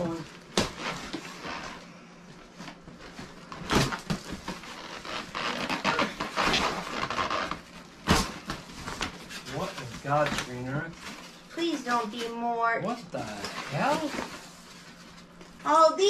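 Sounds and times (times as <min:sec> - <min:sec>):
goods and packaging rustling: 0:00.0 - 0:15.8.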